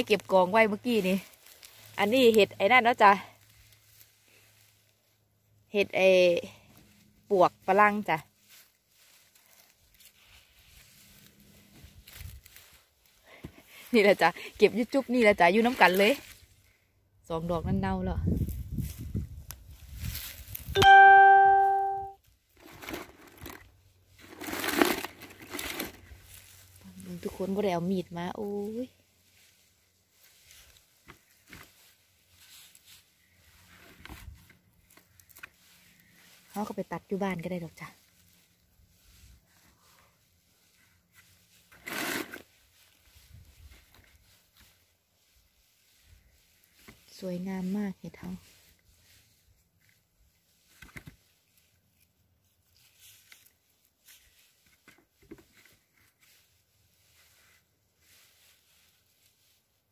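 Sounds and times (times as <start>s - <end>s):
soft rustles: 0.0s - 5.7s, 6.5s - 17.0s, 18.2s - 20.8s, 22.5s - 59.9s.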